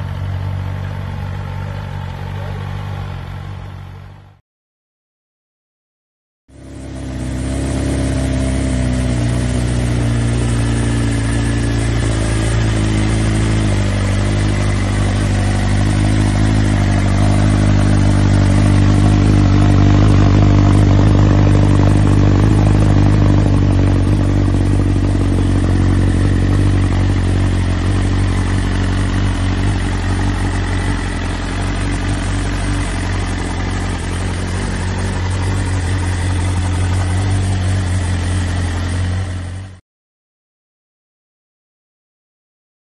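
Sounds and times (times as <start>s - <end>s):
motorcycle engine at low revs: 0.0s - 4.4s, 6.5s - 39.8s.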